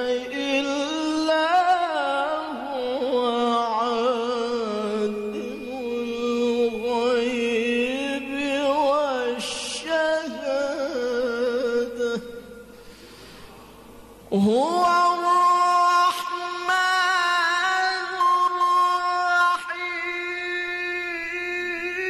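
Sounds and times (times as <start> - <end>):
man reciting melodically: 0.0 - 12.9, 14.0 - 22.0.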